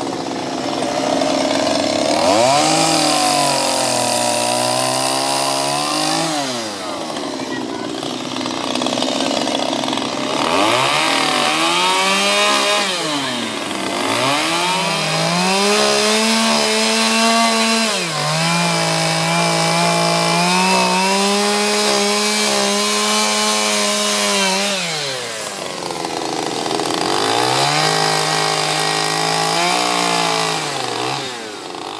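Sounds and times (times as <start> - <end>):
chainsaw cutting wood: 0.0 - 31.9
chainsaw revving: 0.0 - 31.9.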